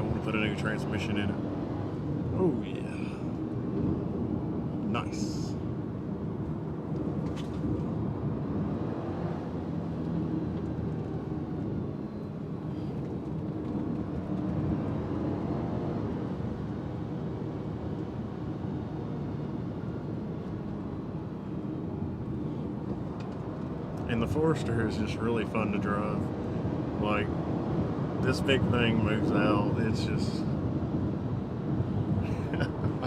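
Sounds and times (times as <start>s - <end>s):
road noise: 0.0s - 33.0s.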